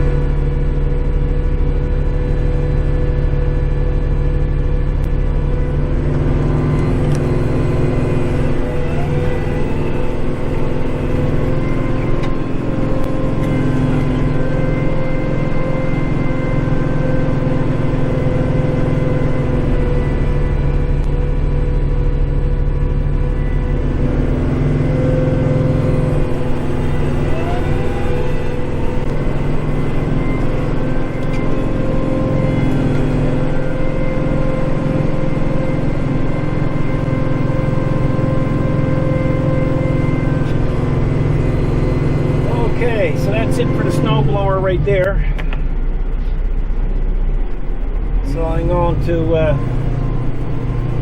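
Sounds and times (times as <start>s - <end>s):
short rising whine: 0.0s - 51.0s
tractor diesel engine under load: 0.0s - 51.0s.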